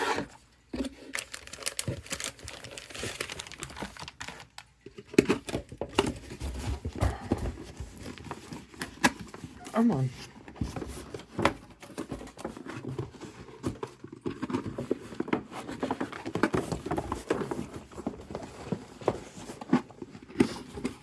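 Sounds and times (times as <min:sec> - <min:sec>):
cardboard box rustling and scraping: 0:00.0 - 0:04.2, 0:06.0 - 0:21.0.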